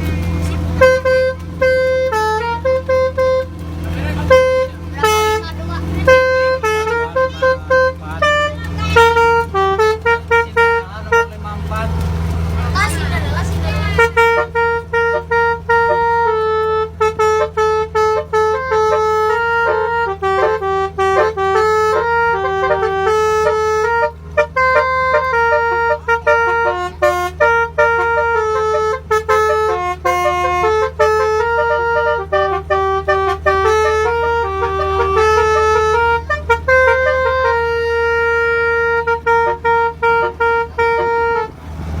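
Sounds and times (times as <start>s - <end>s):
musical horn melody: 0.0s - 42.0s.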